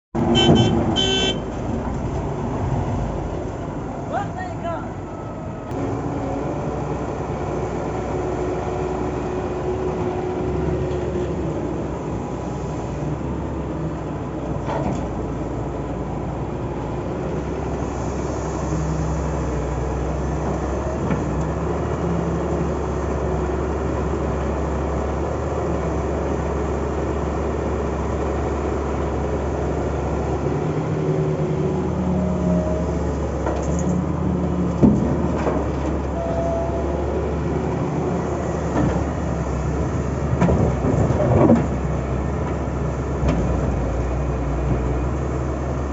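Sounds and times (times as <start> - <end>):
diesel machinery engine running: 0.2 - 45.9.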